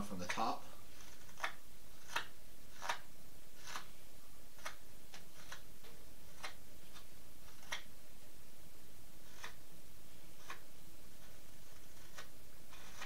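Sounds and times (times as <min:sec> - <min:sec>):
knife scraping wood: 0:00.0 - 0:07.9, 0:09.2 - 0:09.7, 0:10.3 - 0:13.0.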